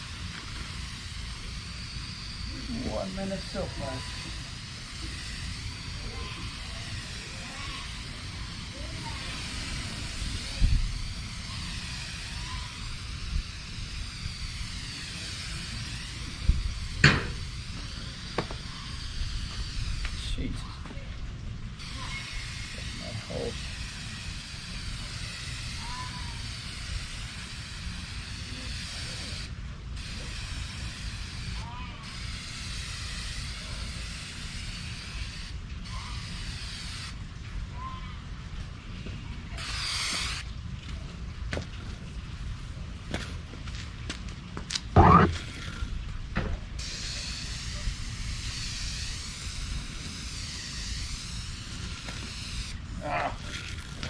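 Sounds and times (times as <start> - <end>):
hose spraying water mist: 0.0 - 54.0.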